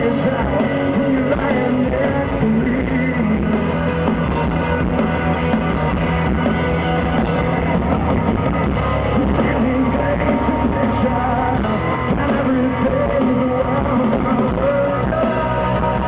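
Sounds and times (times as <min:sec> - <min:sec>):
electric guitar: 0:00.0 - 0:16.0
rock band playing: 0:00.0 - 0:16.0.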